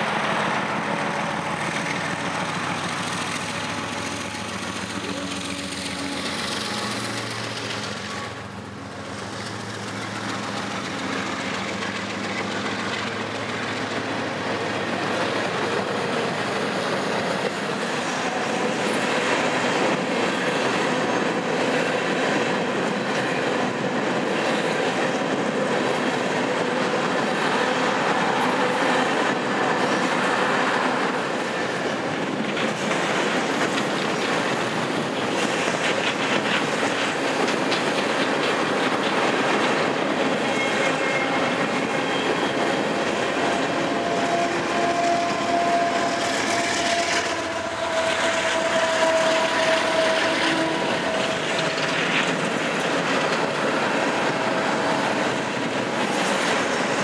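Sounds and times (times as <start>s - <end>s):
clickety-clack over rail joints: 0.0s - 57.0s
freight train wheels rumbling: 0.0s - 57.0s.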